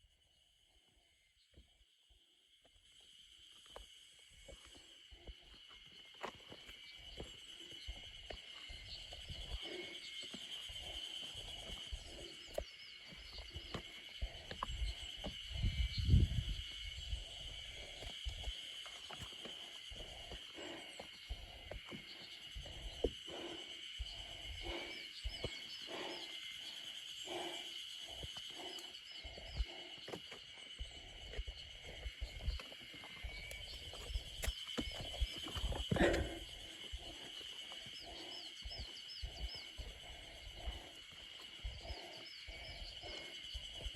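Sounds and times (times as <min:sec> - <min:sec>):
insect chorus: 0:00.0 - 0:43.9
footsteps on a trail: 0:03.6 - 0:43.9
bird chirps: 0:06.6 - 0:43.9.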